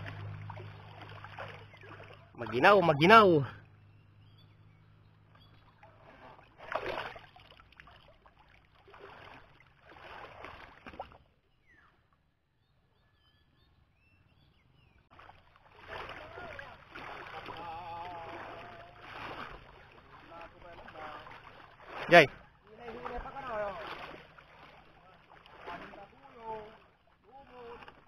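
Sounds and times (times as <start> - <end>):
water sloshing and splashing: 0.0 - 3.6, 5.0 - 11.5, 15.0 - 28.0.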